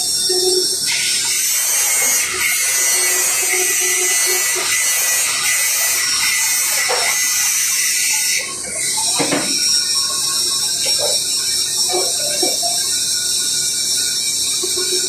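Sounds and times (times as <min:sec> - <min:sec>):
arc welding crackling hiss: 0:00.0 - 0:15.0.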